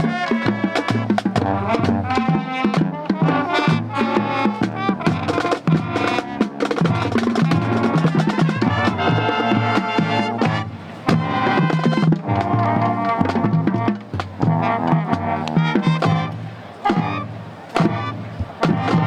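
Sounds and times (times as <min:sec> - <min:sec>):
brass playing: 0:00.0 - 0:19.0.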